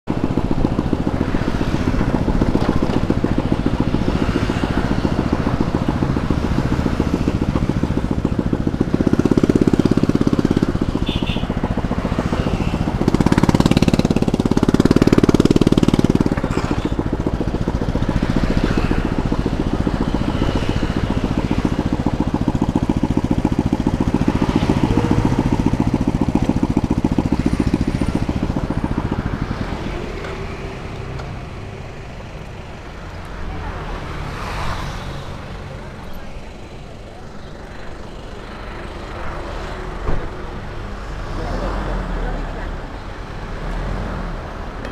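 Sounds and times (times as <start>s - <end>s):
scooter engine rumbling: 0.1s - 43.6s.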